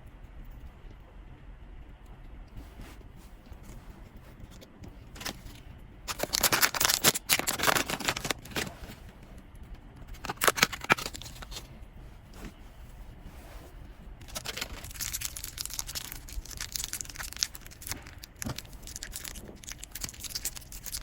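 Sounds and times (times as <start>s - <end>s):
plastic and paper wrapping rustling: 2.6s - 9.3s, 10.1s - 21.0s.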